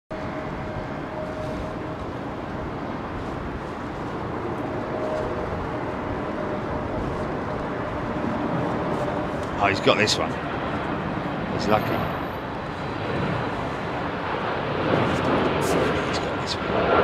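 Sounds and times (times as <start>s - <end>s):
faint steady whine: 0.1s - 16.6s
jet engines droning: 0.1s - 17.0s
strong wind rushing: 0.1s - 17.0s.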